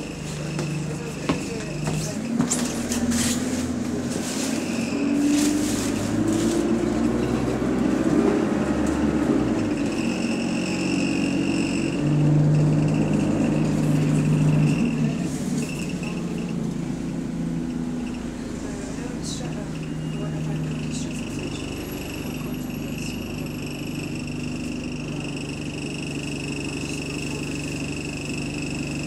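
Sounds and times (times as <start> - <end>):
bus engine hum: 0.0 - 29.0.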